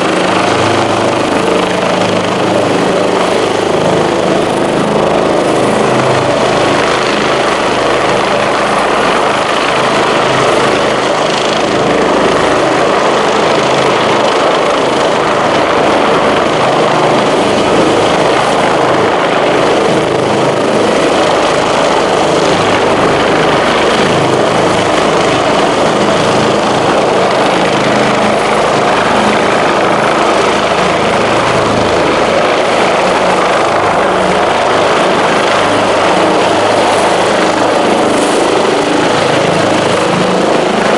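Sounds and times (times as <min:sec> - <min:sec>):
helicopter rotor and turbine noise: 0:00.0 - 0:40.9.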